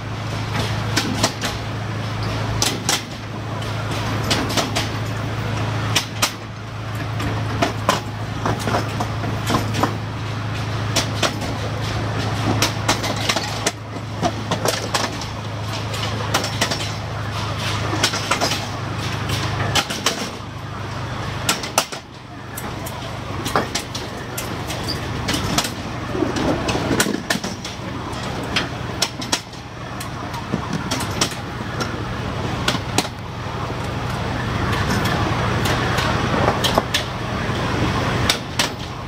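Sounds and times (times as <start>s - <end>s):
rail vehicle engine hum: 0.0s - 39.0s
wheels clicking on rails: 0.0s - 39.0s.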